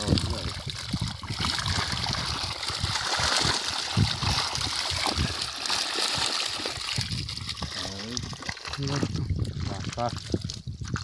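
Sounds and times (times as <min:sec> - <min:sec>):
shallow water sloshing: 0:00.0 - 0:11.0.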